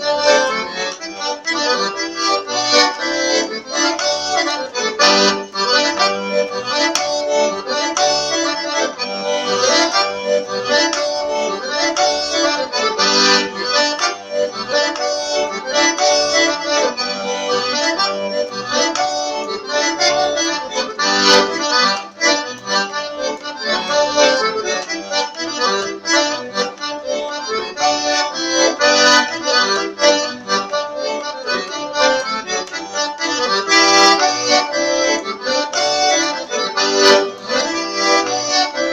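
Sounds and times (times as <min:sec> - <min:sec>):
accordion playing a tune: 0:00.0 - 0:38.9.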